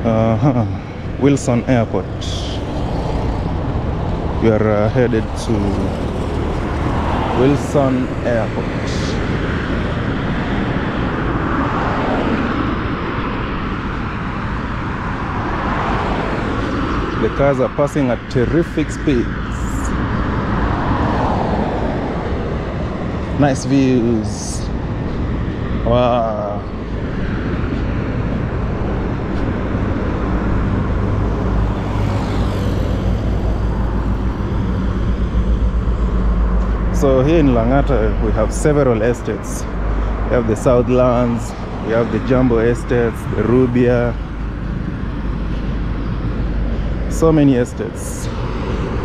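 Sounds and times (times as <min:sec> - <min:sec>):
cars whooshing past: 0:00.0 - 0:49.0
highway traffic rushing: 0:00.0 - 0:49.0
loud vehicle passing: 0:00.0 - 0:49.0.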